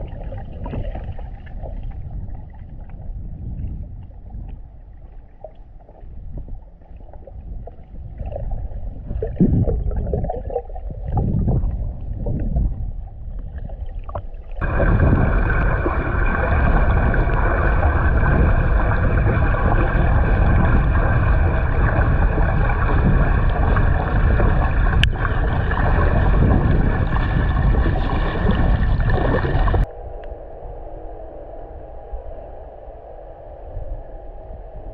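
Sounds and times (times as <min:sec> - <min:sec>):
muffled underwater rumble: 0:00.0 - 0:34.9
underwater water rushing: 0:00.0 - 0:34.9.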